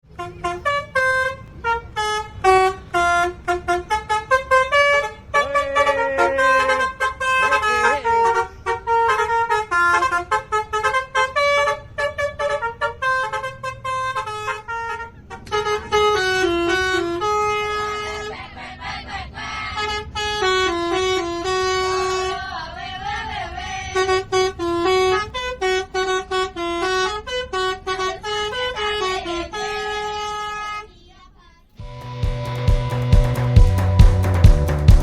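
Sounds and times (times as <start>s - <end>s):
musical bus horn tune: 0.0s - 35.0s.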